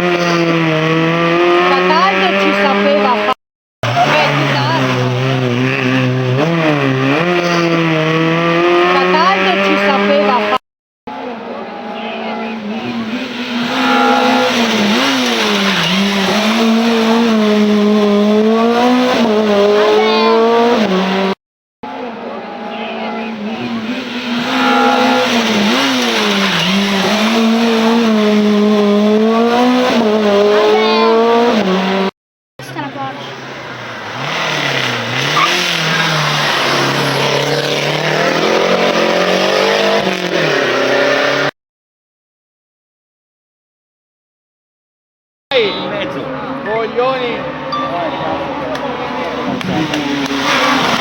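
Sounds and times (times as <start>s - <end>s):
rally car engine at high revs: 0.0s - 41.6s, 45.6s - 51.0s.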